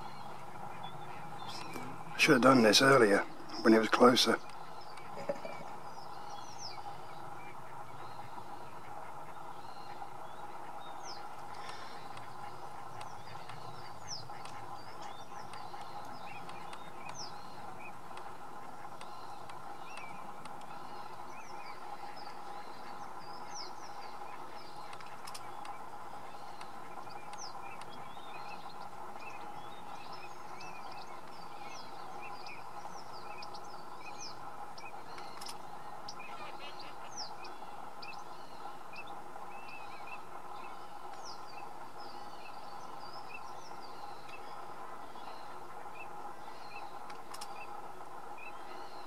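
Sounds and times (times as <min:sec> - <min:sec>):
small birds chirping: 0:00.0 - 0:49.0
steady background noise: 0:00.0 - 0:49.0.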